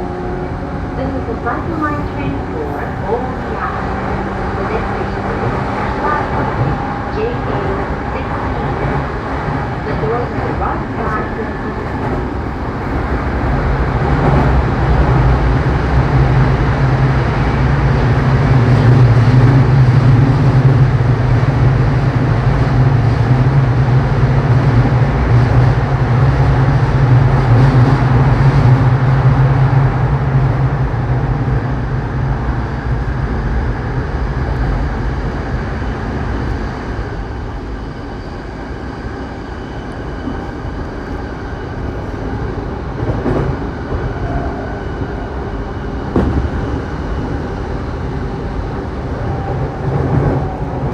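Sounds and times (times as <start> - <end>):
train rail and running noise: 0.0 - 50.9.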